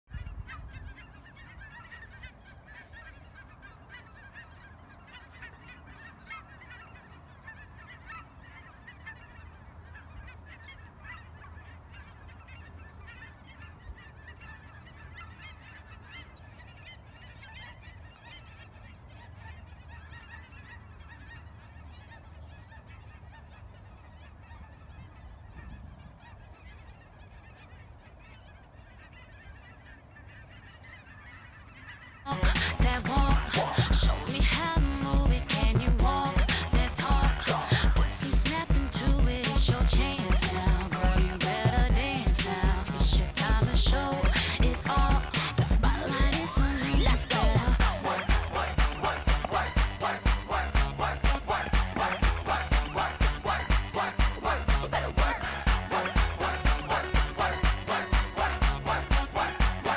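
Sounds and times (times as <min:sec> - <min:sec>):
geese honking: 0:00.1 - 0:59.9.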